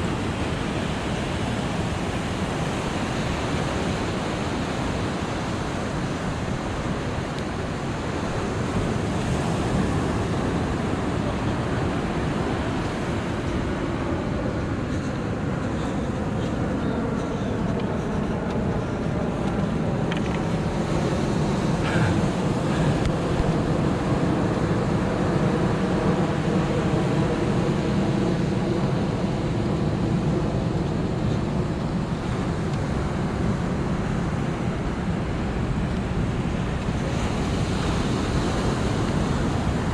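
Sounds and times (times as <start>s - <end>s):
ocean surf washing onto beach: 0.0s - 39.9s
wind buffeting microphone: 0.0s - 39.9s.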